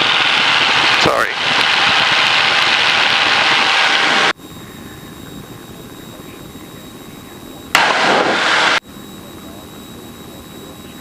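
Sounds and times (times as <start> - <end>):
light aircraft engine and propeller: 0.0 - 11.0
thin high whine: 0.0 - 11.0.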